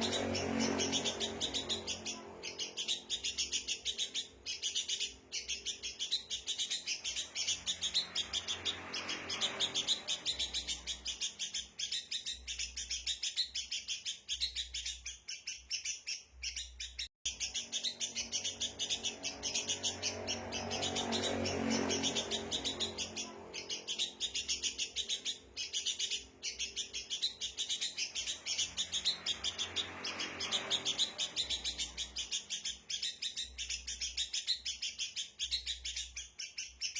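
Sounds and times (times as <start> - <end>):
birds chattering: 0.0 - 36.9.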